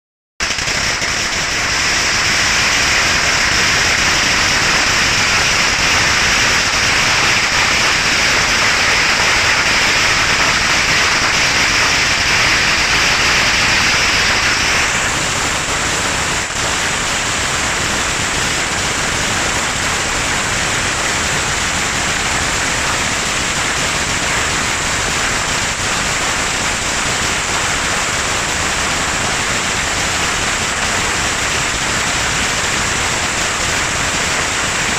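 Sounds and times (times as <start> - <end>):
firecrackers crackling: 0.4 - 34.9.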